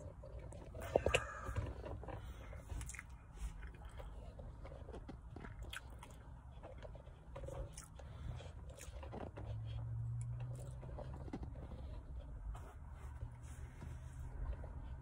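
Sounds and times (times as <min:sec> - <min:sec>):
chewing with crunches: 0:00.0 - 0:12.6.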